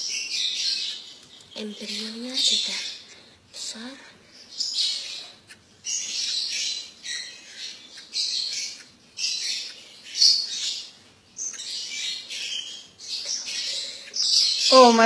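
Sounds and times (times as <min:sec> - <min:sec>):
lovebirds raspy calls: 0:00.0 - 0:15.0.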